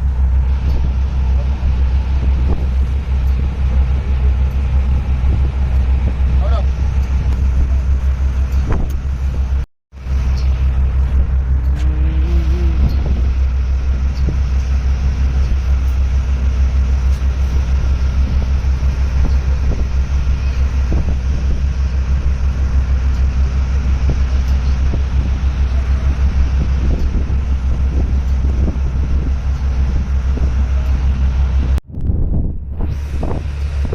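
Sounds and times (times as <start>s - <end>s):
large engine rumbling: 0.0s - 33.9s.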